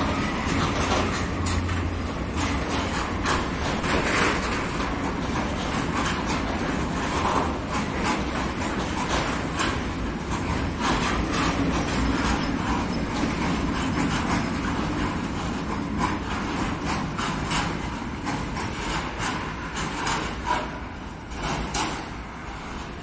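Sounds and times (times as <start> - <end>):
freight train wheels rumbling: 0.0 - 23.0
train knocks and clanks: 0.0 - 23.0.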